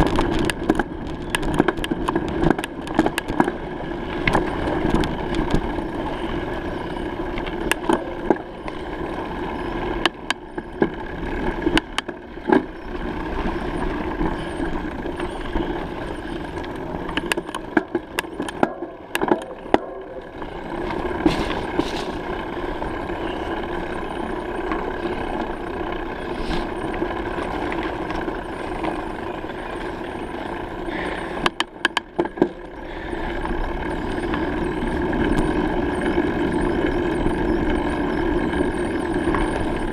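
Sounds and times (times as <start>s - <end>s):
bicycle rolling: 0.0s - 39.9s
bike rattling over bumps: 0.0s - 39.9s.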